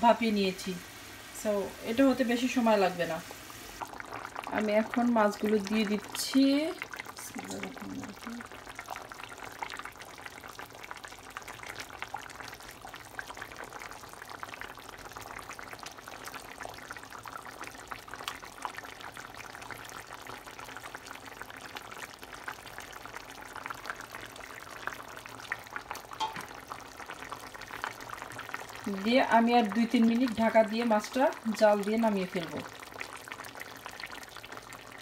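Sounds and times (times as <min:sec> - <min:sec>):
broth boiling in a pot: 0:00.0 - 0:35.0.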